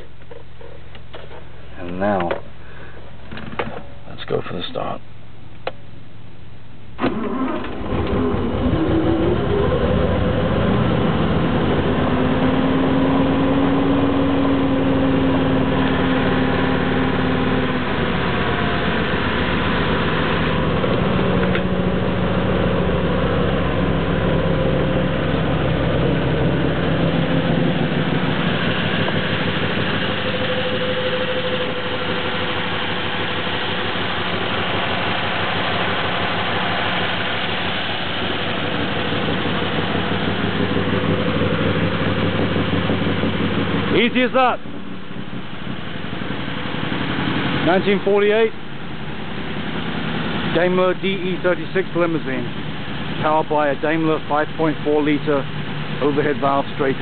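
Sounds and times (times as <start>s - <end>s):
engine fast idling: 7.0s - 57.0s.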